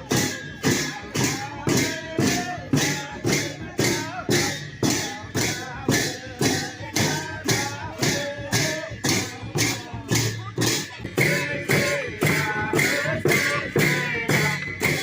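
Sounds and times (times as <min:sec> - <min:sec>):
drum and cymbals beat: 0:00.0 - 0:15.0
people singing: 0:00.0 - 0:15.0.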